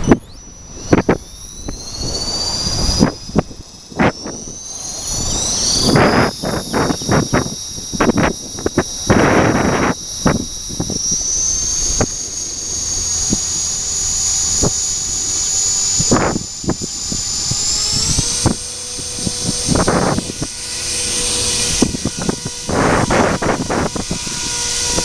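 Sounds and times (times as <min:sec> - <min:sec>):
model helicopter rotor whine: 0:00.0 - 0:25.0
wind buffeting microphone: 0:00.0 - 0:25.0.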